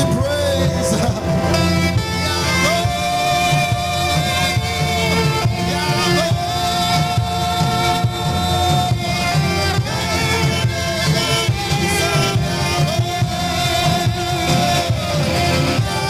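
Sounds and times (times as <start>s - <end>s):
worship music on electronic keyboard: 0.0s - 16.0s.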